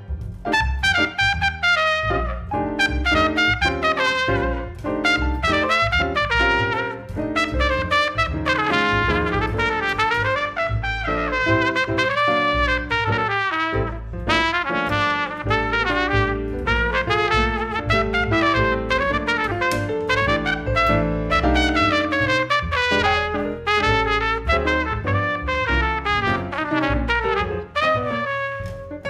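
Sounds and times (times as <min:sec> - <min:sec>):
jazz trumpet soloing: 0:00.0 - 0:29.0
piano chords: 0:00.0 - 0:29.0
upright bass: 0:00.0 - 0:29.0.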